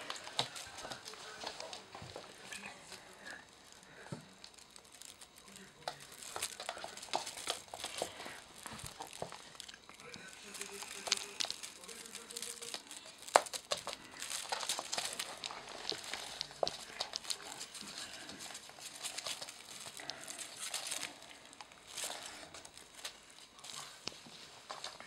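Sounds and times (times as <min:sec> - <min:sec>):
feather toy rustling: 0:00.0 - 0:25.0
kitten claws skittering on wooden floor: 0:00.0 - 0:25.0.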